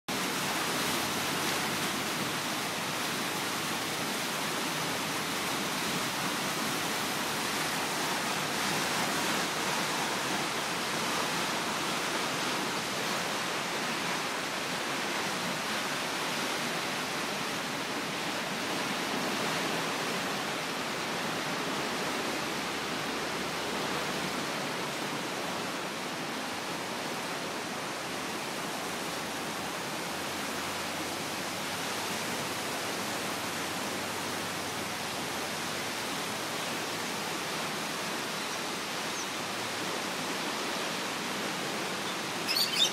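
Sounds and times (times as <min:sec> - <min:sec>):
floodwater rushing: 0:00.1 - 0:42.9.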